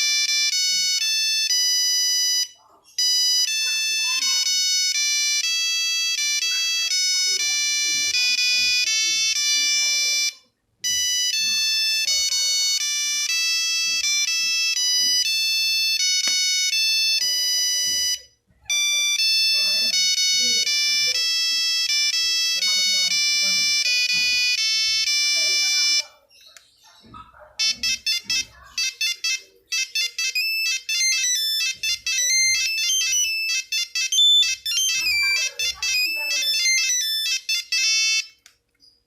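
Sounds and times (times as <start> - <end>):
monophonic phone ringtone: 0.0 - 26.3, 27.4 - 38.4.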